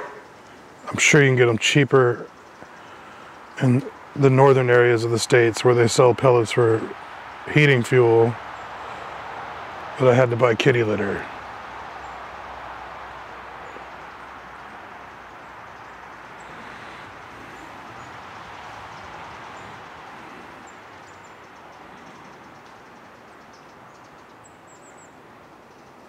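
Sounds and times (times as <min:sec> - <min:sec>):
faint fire crackles: 0:00.0 - 0:26.0.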